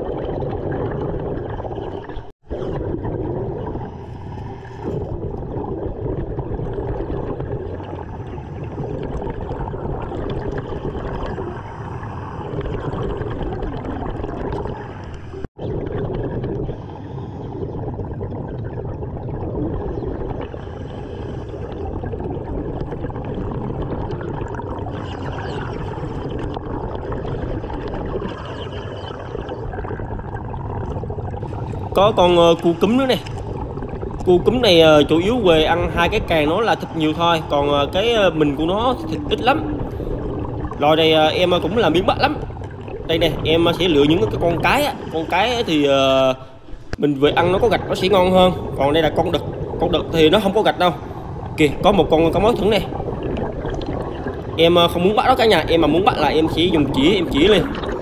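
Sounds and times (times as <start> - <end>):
underwater bubbling of exhaled air: 0.0 - 58.0.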